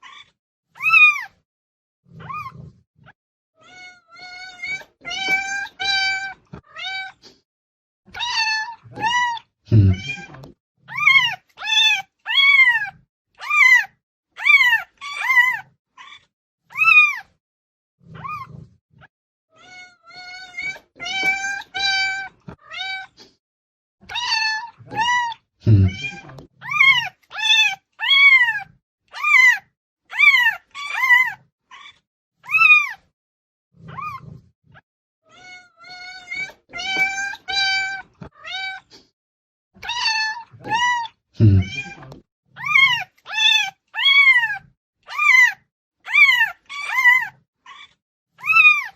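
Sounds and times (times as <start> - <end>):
cats meowing: 0.0 - 1.4, 2.2 - 2.8, 3.6 - 7.4, 8.1 - 17.3, 19.5 - 23.3, 24.1 - 33.1, 35.2 - 39.1, 39.8 - 48.9.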